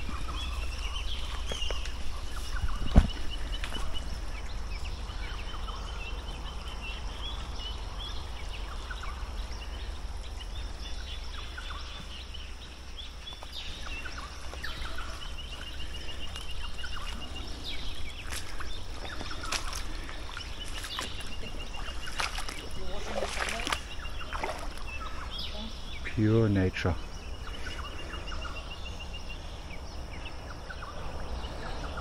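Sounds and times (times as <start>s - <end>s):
birds chirping: 0.0s - 32.0s
steady low rumble: 0.0s - 32.0s.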